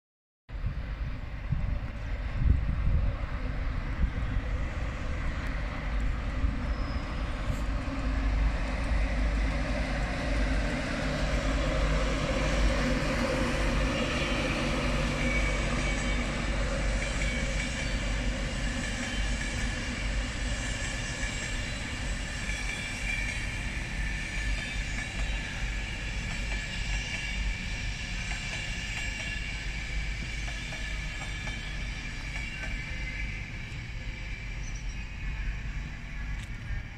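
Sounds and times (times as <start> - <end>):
train rolling on rails: 0.5 - 36.9.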